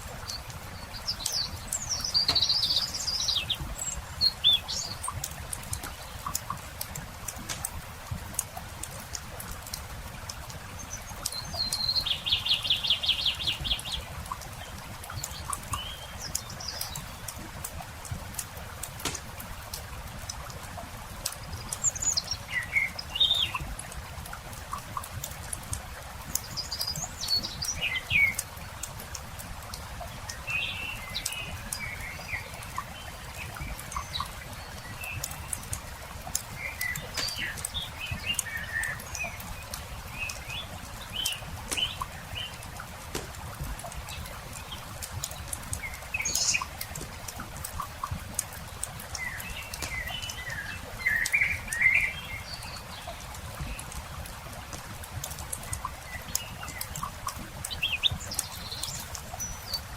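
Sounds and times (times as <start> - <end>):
campfire crackling and popping: 0.0 - 59.9
songbirds chirping: 0.0 - 59.9.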